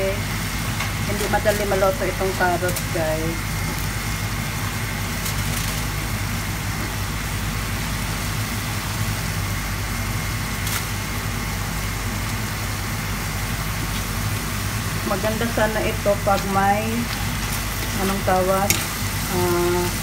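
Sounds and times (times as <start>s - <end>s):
broth simmering in pan: 0.0s - 20.0s
low mechanical hum: 0.0s - 20.0s.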